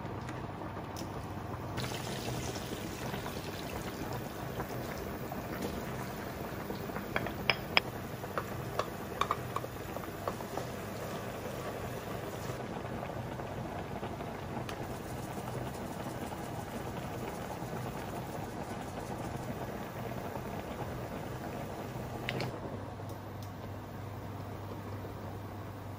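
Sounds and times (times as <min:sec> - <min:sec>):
pasta water bubbling: 0:00.4 - 0:22.7.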